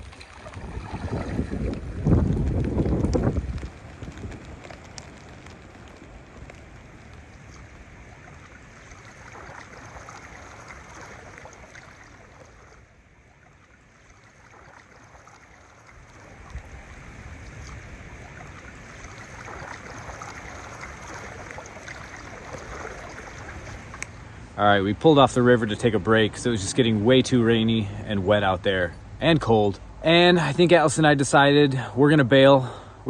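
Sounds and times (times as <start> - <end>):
paddle splashing water: 0.0 - 33.0.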